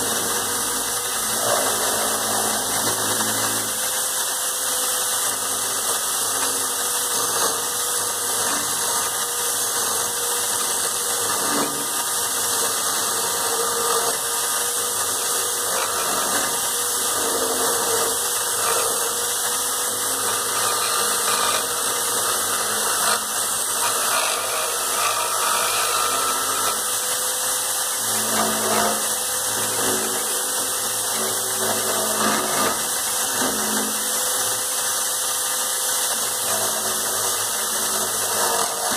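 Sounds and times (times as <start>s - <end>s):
chisel scraping spinning wood: 0.0s - 38.9s
electric drill running: 0.0s - 38.9s.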